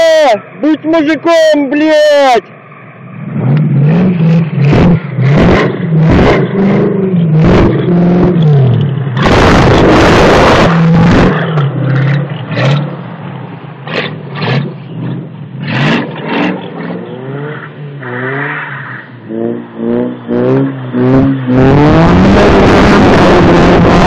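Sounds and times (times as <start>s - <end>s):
distant engines revving: 0.0s - 24.0s.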